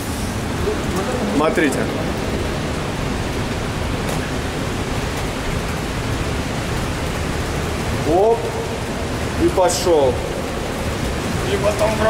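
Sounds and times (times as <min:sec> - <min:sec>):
water rushing in tunnel: 0:00.0 - 0:12.0.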